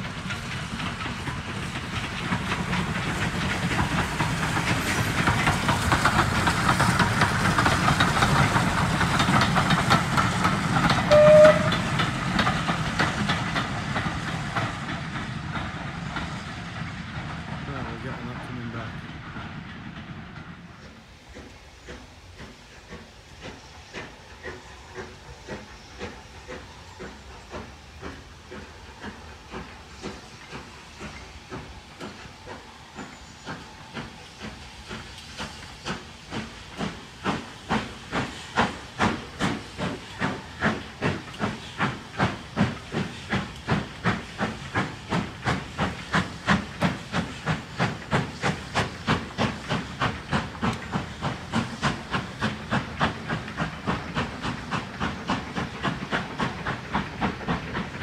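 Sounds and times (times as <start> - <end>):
departing train: 0.0 - 58.0
steam locomotive chuffing: 0.0 - 58.0.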